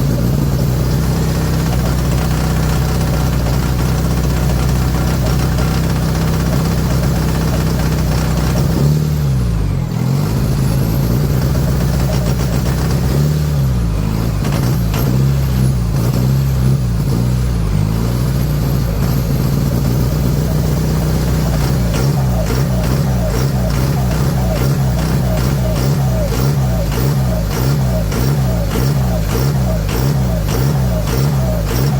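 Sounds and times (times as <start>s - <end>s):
diesel engine revving: 0.0s - 31.9s.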